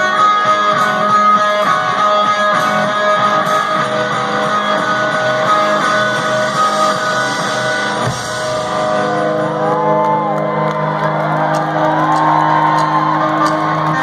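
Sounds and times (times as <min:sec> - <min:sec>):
electric guitar notes bending: 0:00.0 - 0:12.2
rock band playing loudly: 0:00.0 - 0:14.0.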